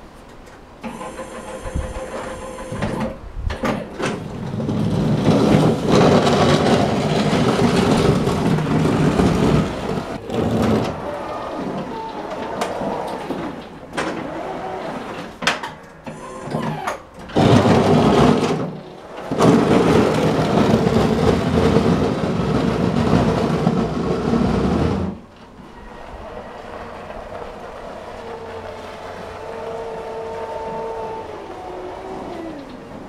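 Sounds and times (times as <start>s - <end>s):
snow plough blade scraping: 0.8s - 3.1s, 3.9s - 33.0s
electric tractor whine: 0.8s - 3.2s, 4.0s - 33.0s.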